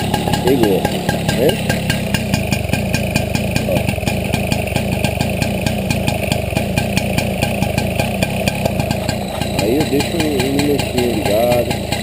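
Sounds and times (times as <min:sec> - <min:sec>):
moped engine idling: 0:00.0 - 0:12.0.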